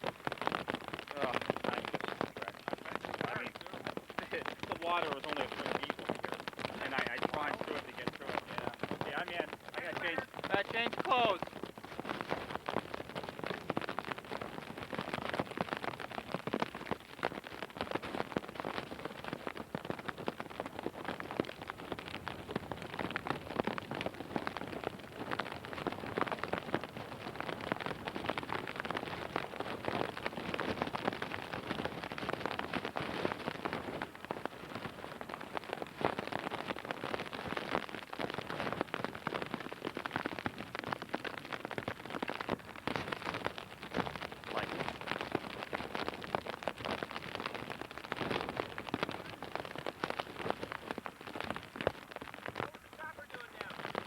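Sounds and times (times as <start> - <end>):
heavy rain on a hard surface: 0.0 - 54.0.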